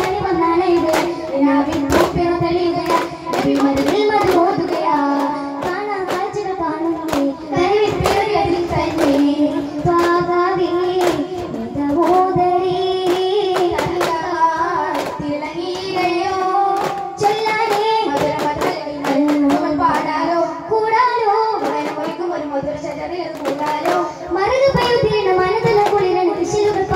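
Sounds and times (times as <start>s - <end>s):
boys singing together: 0.0s - 22.2s
frame drums beating: 0.0s - 26.9s.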